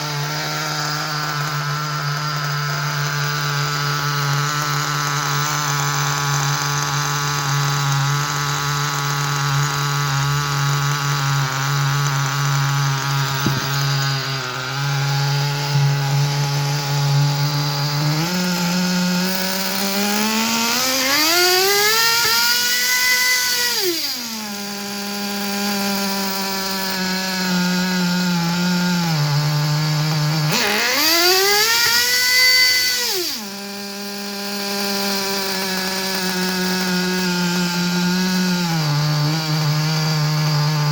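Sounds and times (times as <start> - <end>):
small engine revving: 0.0 - 40.9.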